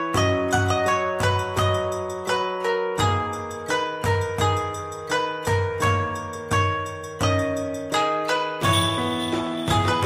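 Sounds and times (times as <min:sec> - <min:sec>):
plucked string music: 0:00.0 - 0:10.0.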